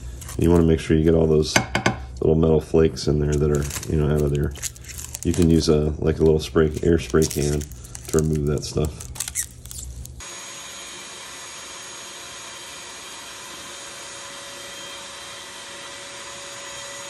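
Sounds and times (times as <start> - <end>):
shop vacuum running: 0.0 - 17.0.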